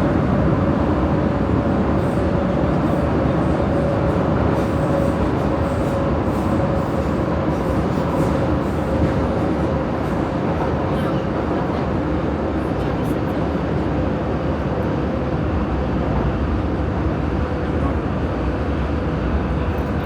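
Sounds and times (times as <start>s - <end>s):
constant train whine: 0.0s - 20.0s
metro train rumble: 0.0s - 20.0s.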